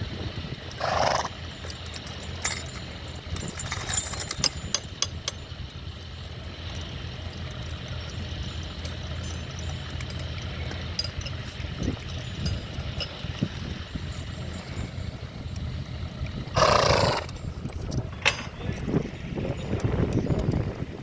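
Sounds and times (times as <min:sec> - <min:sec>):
tractor engine running: 0:00.0 - 0:21.0
sharp clinks and knocks: 0:00.6 - 0:20.9.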